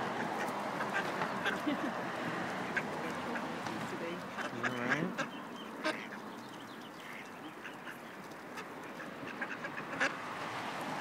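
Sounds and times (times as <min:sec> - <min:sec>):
ducks quacking: 0:00.0 - 0:10.3.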